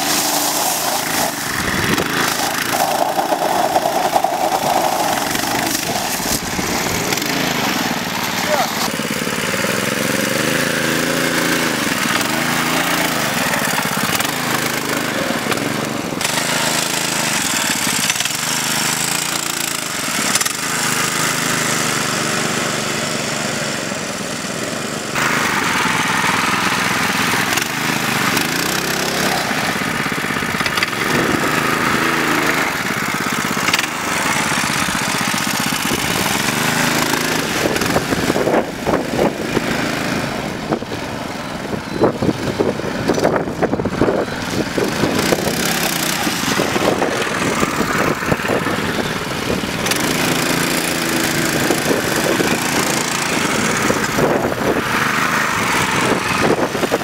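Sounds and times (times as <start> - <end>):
mini bike engines revving: 0.0 - 57.0.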